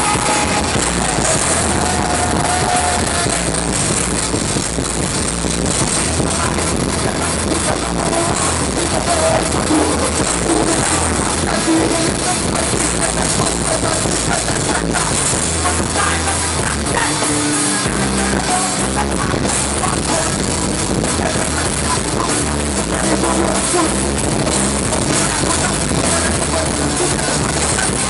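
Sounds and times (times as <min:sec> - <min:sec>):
bass guitar: 0:00.0 - 0:28.0
drum kit: 0:00.0 - 0:28.0
live rock band playing: 0:00.0 - 0:28.0.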